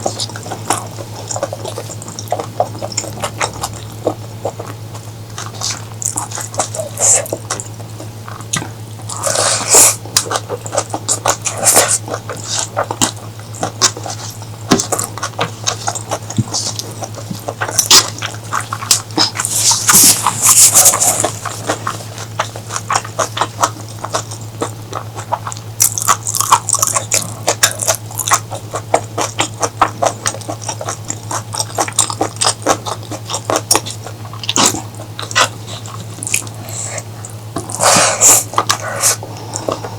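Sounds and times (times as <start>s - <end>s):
steady low hum: 0.0s - 39.9s
wet chewing and mouth clicks: 0.0s - 39.9s.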